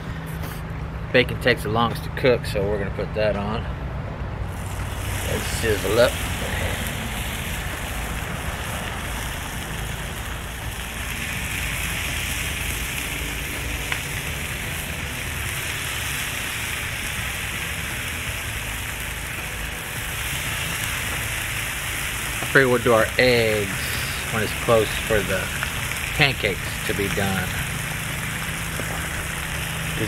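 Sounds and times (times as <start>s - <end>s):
steady low rumble: 0.0s - 30.0s
bacon sizzling on a griddle: 4.4s - 30.0s.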